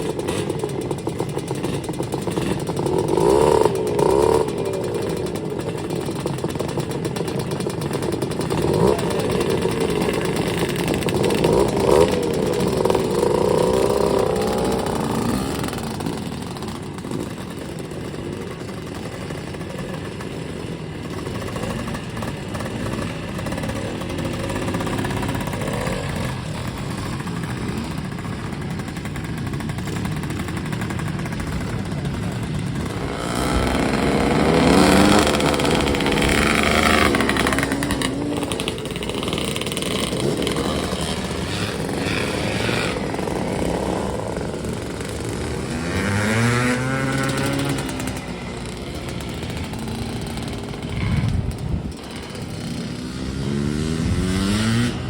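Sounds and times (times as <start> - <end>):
two-stroke motorcycle engines revving: 0.0 - 55.0.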